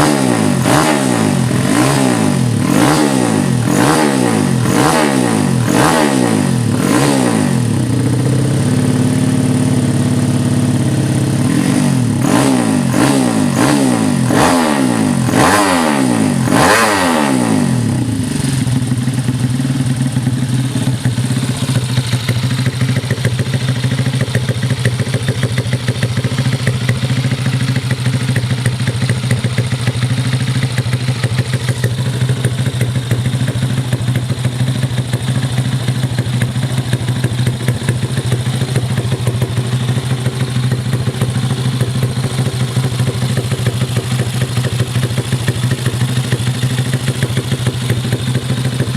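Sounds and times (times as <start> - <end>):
motorcycle engine revving and idling: 0.0 - 48.9.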